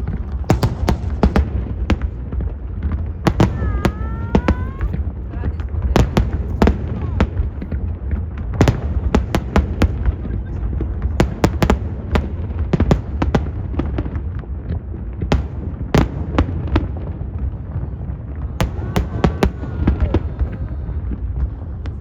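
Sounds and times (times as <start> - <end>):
constant low rumble: 0.0 - 22.0
fireworks bursting with sharp bangs: 0.0 - 22.0.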